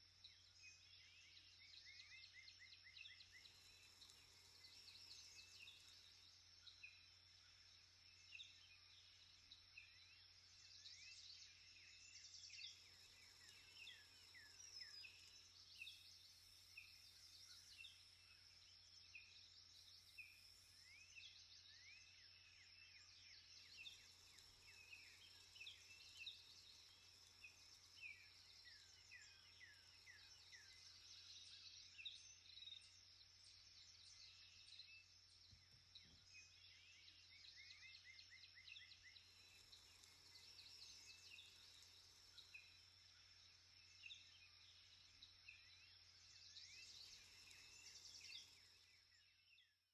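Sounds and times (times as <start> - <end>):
small birds chirping: 0.0 - 49.9
insect drone: 0.1 - 49.7.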